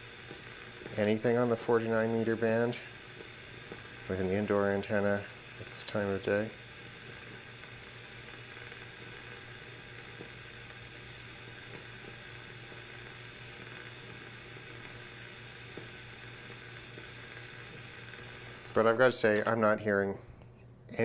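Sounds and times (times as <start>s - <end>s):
radio static hiss: 0.0s - 20.2s.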